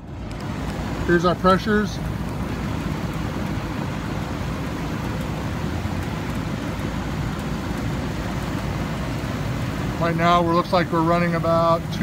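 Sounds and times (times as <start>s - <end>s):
air conditioning unit rushing: 0.0s - 12.0s.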